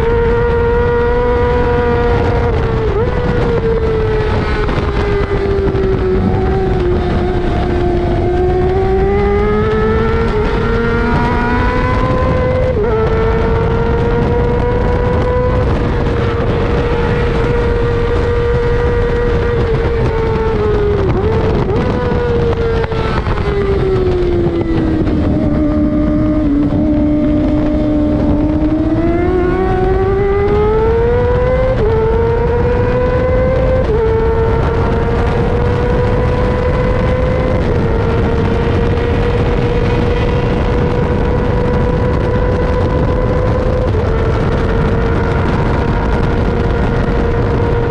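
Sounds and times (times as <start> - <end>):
sportbike engine at high revs: 0.0 - 47.9
wind rush: 0.0 - 47.9.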